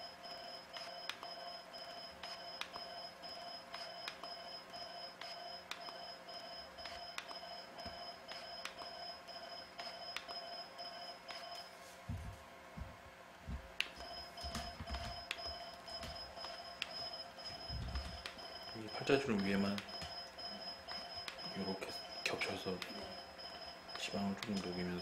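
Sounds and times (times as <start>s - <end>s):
rapid high beeping: 0.0s - 11.7s, 13.9s - 25.0s.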